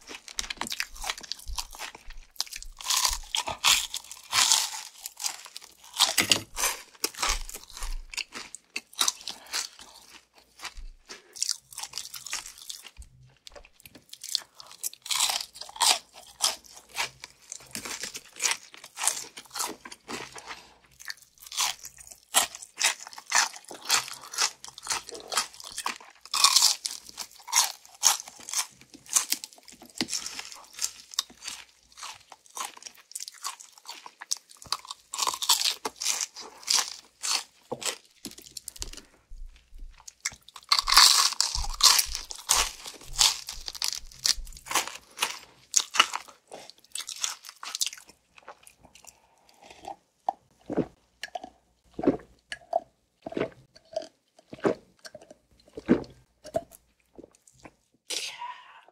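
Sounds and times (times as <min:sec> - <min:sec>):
crunching crispy fried chicken: 0:00.0 - 0:39.2, 0:39.8 - 0:49.2.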